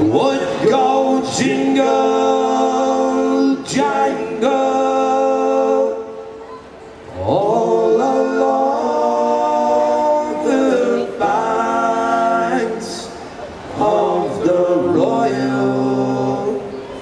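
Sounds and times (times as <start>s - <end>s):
men singing in harmony: 0.0s - 6.3s, 7.1s - 17.0s.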